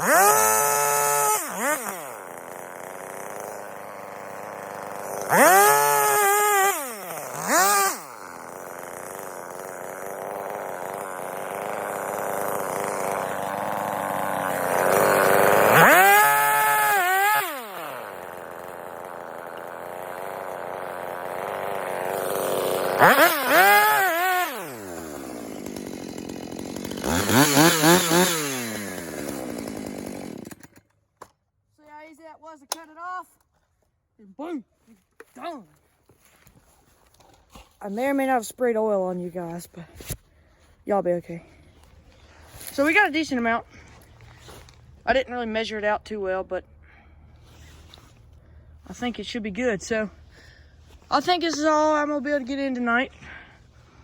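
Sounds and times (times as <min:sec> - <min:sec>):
chainsaw idling and revving: 0:00.0 - 0:31.0, 0:37.1 - 0:54.0.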